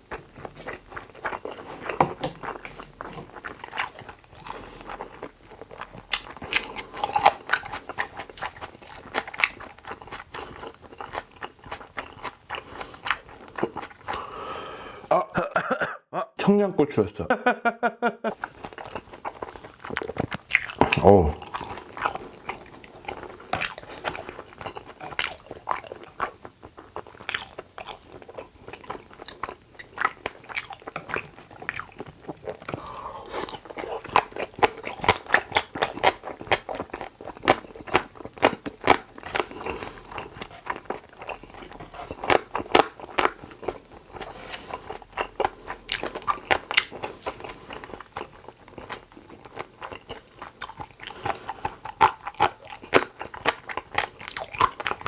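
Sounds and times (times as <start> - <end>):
person chewing crunchy food: 0.0 - 15.8, 18.3 - 55.0.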